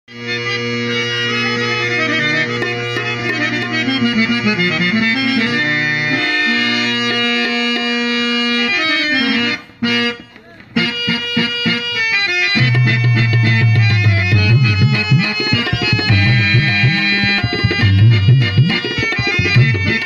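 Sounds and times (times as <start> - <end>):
harmonium melody over drone: 0.1 - 20.0.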